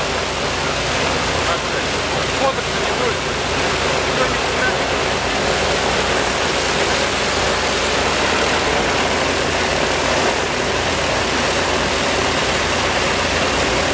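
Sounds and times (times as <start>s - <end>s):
propeller rushing noise: 0.0s - 13.9s
radial engine drone: 0.0s - 13.9s.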